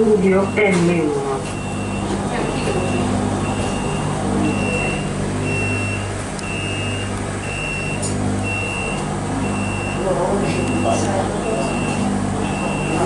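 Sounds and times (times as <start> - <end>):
tram door warning beeps: 0.0 - 13.0
tram low hum: 0.0 - 13.0.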